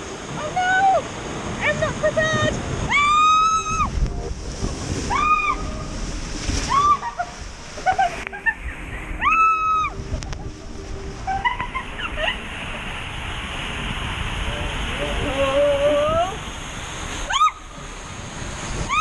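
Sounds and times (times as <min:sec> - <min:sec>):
rushing and splashing water: 0:00.0 - 0:19.0.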